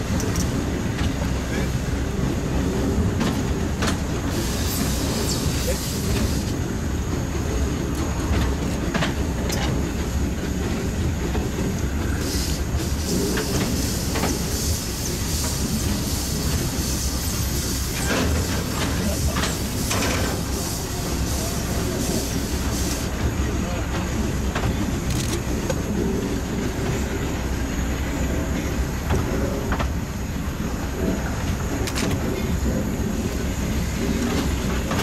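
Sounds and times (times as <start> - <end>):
steam hissing from cylinders: 0.0 - 8.3, 9.4 - 35.0
steam locomotive running: 0.0 - 35.0.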